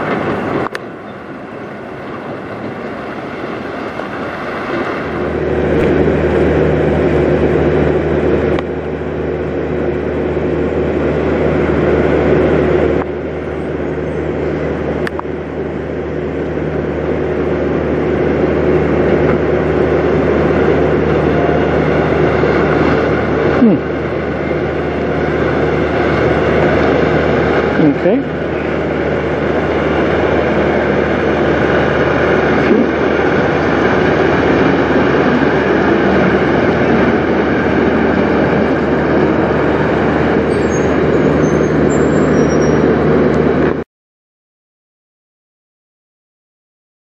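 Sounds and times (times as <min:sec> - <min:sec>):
diesel truck engines running: 0:00.0 - 0:43.8.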